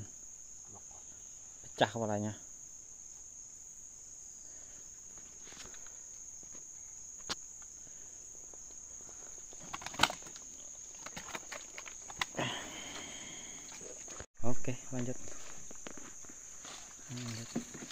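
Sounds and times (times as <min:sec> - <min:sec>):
high-pitched insect drone: 0:00.0 - 0:17.9.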